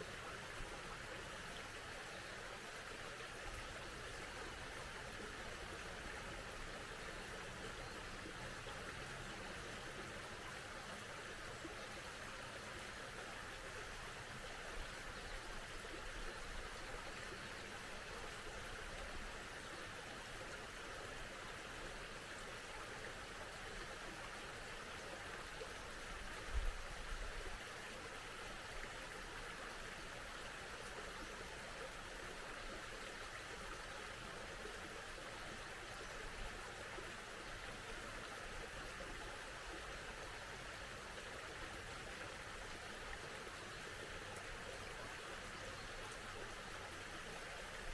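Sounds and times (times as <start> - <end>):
stream flowing: 0.0 - 47.9.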